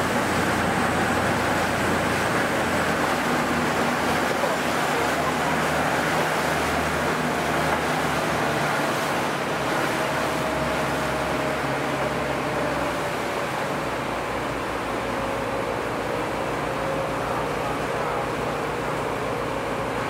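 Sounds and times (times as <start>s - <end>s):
boat engine running: 0.0s - 20.0s
rush of wind and water: 0.0s - 20.0s.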